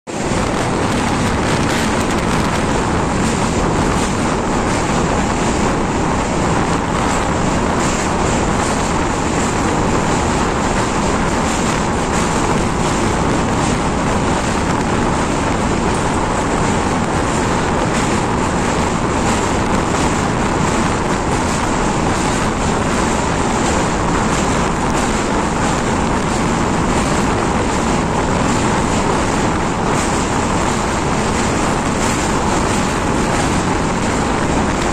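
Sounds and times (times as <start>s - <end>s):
rushing wind: 0.0s - 34.9s
train wheels rumbling on track: 0.1s - 34.9s.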